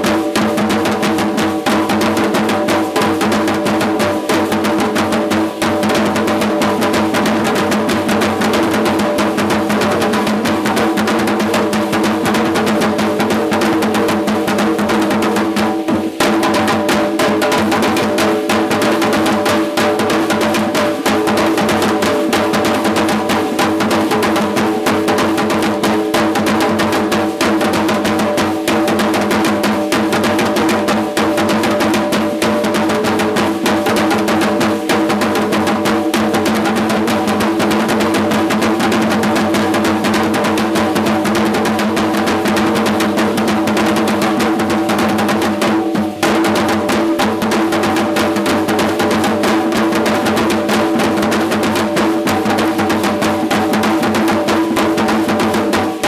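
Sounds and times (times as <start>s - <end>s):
fast drum beat: 0.0s - 56.0s.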